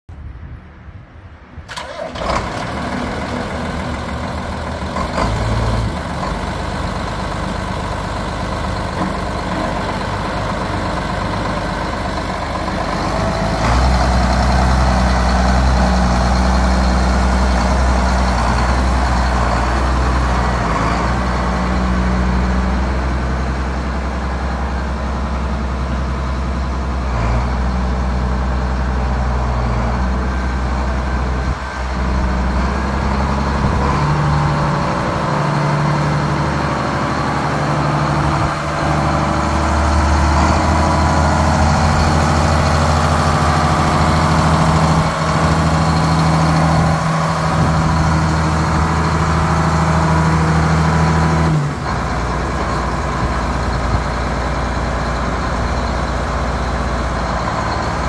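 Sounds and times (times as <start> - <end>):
tractor diesel engine running: 1.7 - 58.0.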